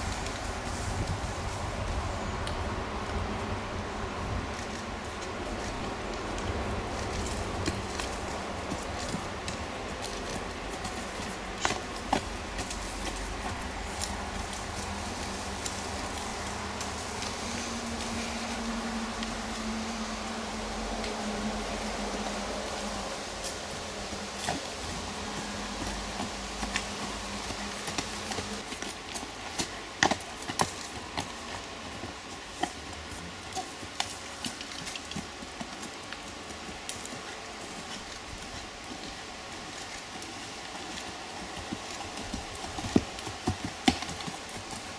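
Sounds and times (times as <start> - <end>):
horse trotting on sand: 0.0 - 44.9.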